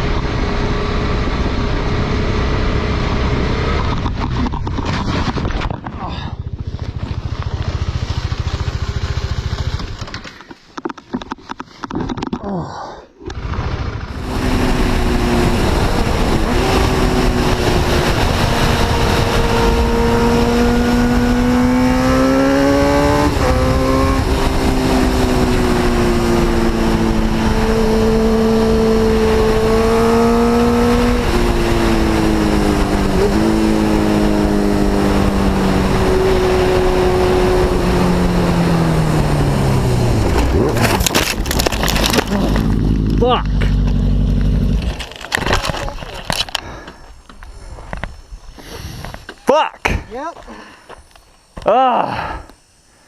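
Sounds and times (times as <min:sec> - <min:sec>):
motorcycle engine running hard: 0:00.0 - 0:10.4, 0:13.3 - 0:47.0.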